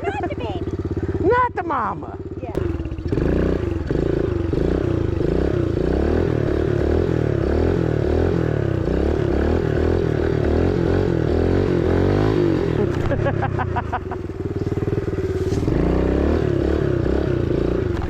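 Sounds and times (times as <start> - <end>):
small motorbike engine revving: 0.0 - 18.0.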